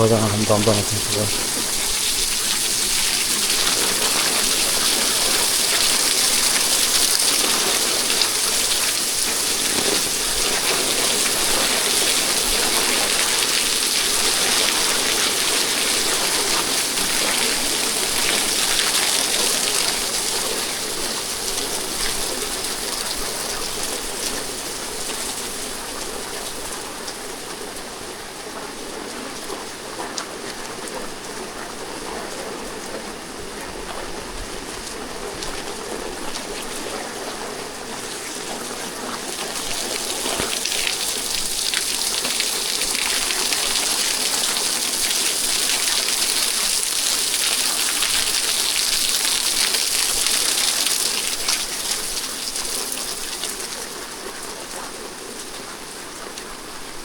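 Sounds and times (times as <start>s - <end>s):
heavy rain on street: 0.0s - 57.0s.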